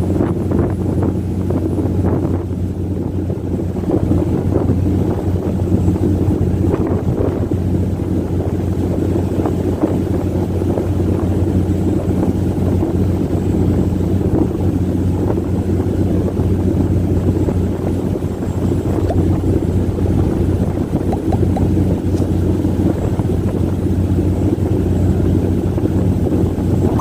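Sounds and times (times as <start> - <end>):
boat diesel engine drone: 0.0 - 27.0
wind: 0.0 - 27.0.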